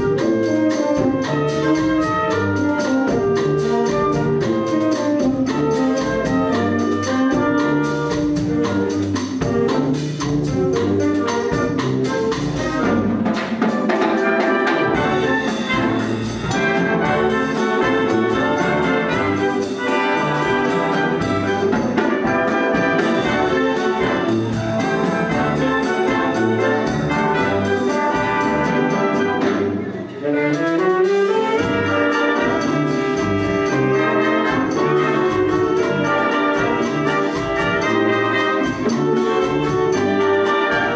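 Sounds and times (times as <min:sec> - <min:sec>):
wind band playing latin music: 0:00.0 - 0:40.9.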